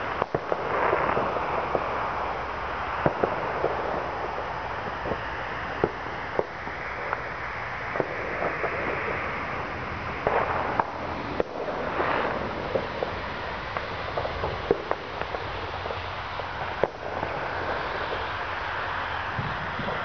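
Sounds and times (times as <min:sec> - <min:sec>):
distant fireworks bangs and pops: 0:00.0 - 0:20.0.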